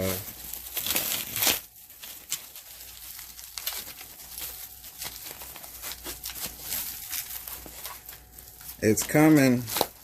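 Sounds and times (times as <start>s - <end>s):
plastic wrapping crinkling and tearing: 0.0s - 10.0s.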